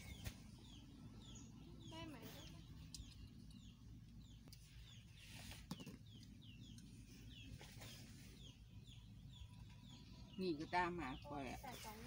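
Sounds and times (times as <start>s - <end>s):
faint bird chirping: 0.0s - 12.0s.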